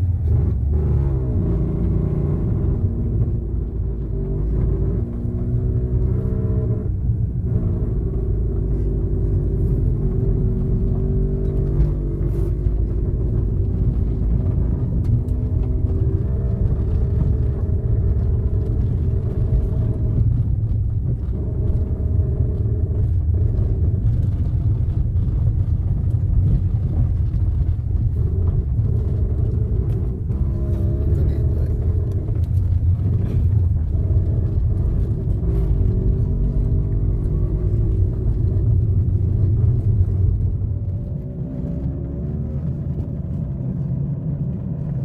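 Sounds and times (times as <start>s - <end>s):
car on dirt road rumbling: 0.0s - 45.0s.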